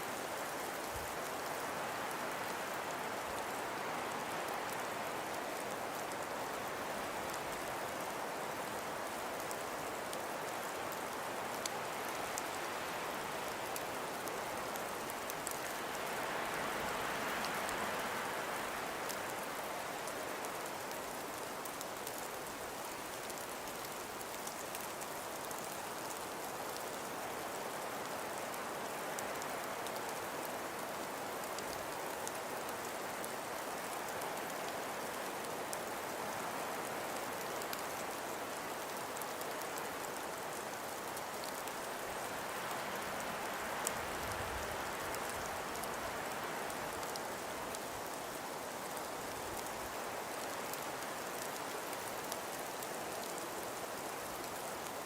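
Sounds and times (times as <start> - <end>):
wind and falling snow hiss: 0.0 - 55.0.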